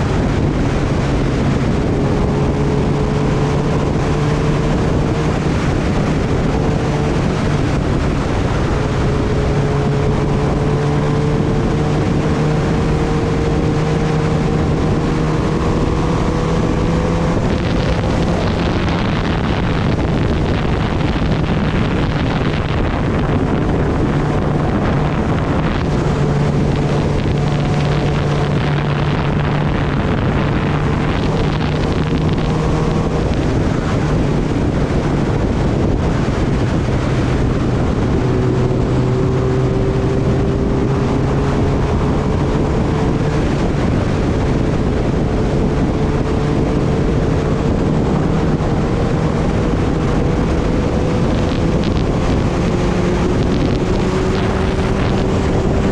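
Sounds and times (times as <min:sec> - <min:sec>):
motorcycle engine cruising: 0:00.0 - 0:55.9
wind rush on microphone: 0:00.0 - 0:55.9.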